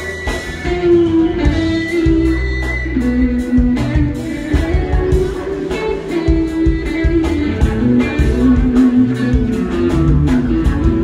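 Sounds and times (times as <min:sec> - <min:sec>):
electric guitar: 0:00.0 - 0:11.0
funk band playing: 0:00.0 - 0:11.0.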